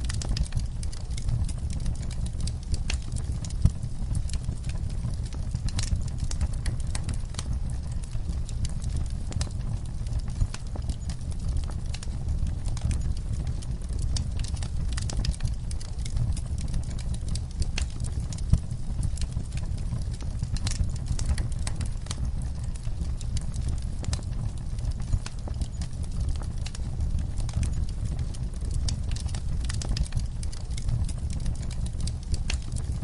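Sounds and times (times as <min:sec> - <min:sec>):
campfire crackling: 0:00.0 - 0:33.0
fire pops and snaps: 0:00.0 - 0:33.0
low rumble of fire: 0:00.0 - 0:33.0.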